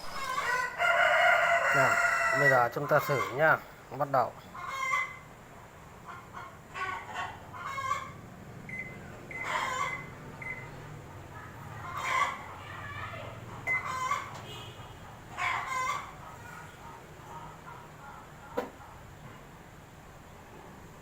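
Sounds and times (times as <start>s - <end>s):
chickens clucking: 0.0s - 19.4s.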